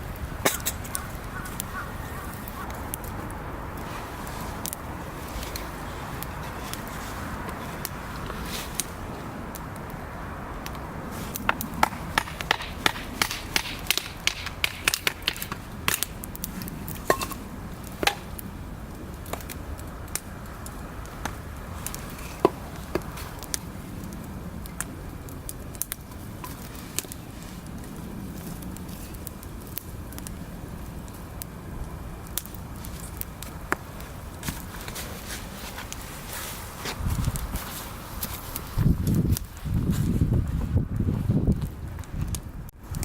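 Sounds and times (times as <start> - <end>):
low hiss of burning: 0.0 - 43.0
wood fire crackling and popping: 0.0 - 43.0.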